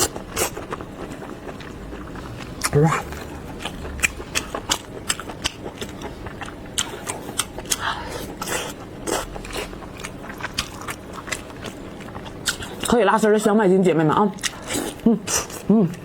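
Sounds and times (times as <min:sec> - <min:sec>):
wet chewing: 0:00.0 - 0:13.4.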